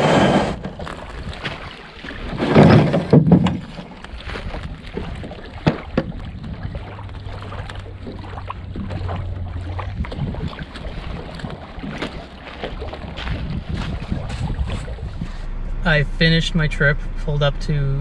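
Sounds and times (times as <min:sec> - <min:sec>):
rush of water: 0:00.0 - 0:15.5
paddle strokes in water: 0:00.0 - 0:15.6
wind on microphone: 0:00.0 - 0:15.8.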